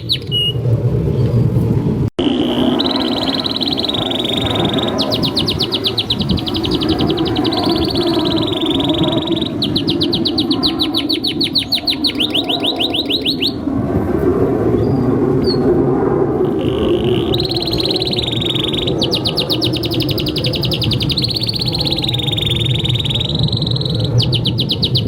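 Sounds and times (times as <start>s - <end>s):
canary singing trills: 0.0s - 0.6s, 2.2s - 13.6s, 16.4s - 25.0s.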